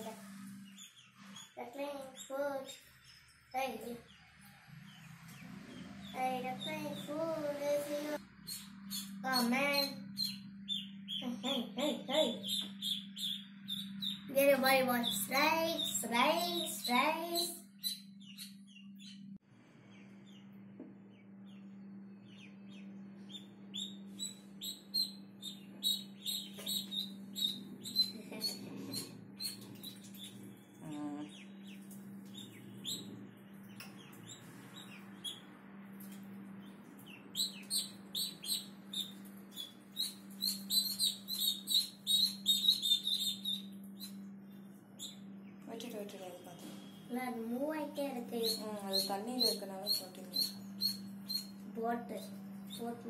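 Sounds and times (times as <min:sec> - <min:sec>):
ducklings peeping: 0:00.0 - 0:19.2, 0:22.3 - 0:35.5, 0:36.1 - 0:44.2, 0:48.2 - 0:53.0
steady low hum: 0:00.0 - 0:53.0.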